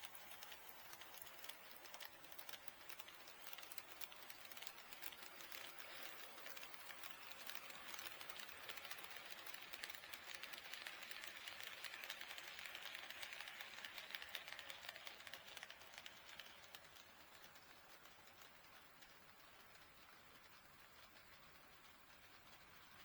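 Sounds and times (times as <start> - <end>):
model train wheels clicking: 0.0 - 23.0.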